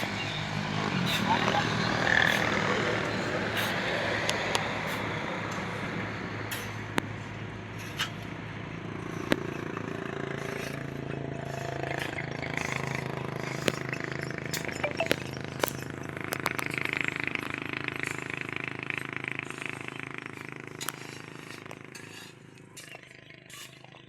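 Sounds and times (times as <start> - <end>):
machinery engine hum: 0.0 - 23.5.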